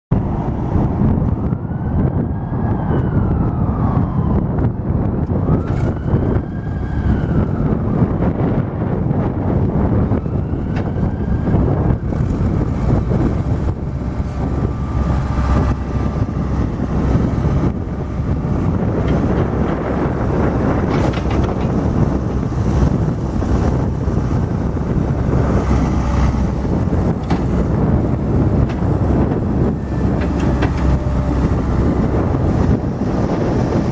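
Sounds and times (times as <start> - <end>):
diesel engine running loudly: 5.3 - 33.9.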